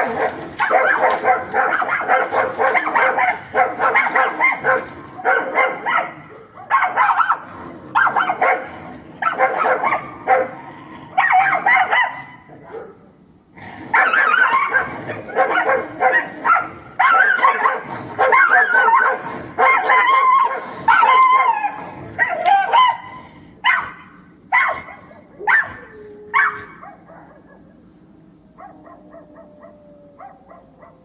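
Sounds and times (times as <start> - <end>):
dogs barking and snarling: 0.0 - 31.0.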